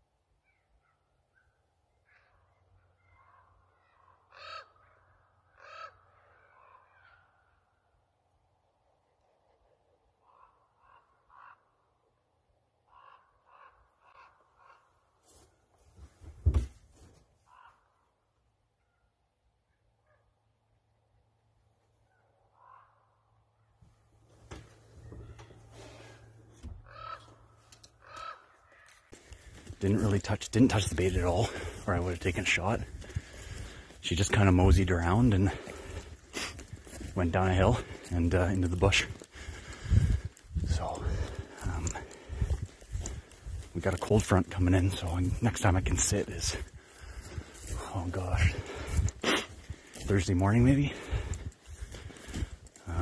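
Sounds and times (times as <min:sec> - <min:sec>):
ravens croaking: 0:02.0 - 0:07.8, 0:10.0 - 0:18.4, 0:22.0 - 0:53.0.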